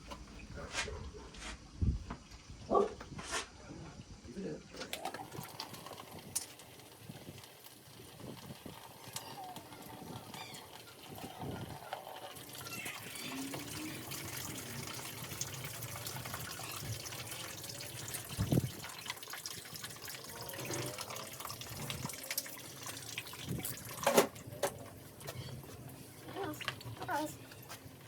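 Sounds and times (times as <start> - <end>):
liquid trickling: 4.8 - 28.0.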